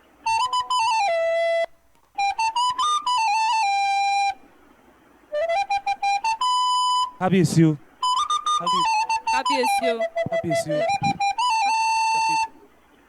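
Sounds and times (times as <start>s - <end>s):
flute-like wind instrument: 0.0s - 4.5s, 5.3s - 12.7s.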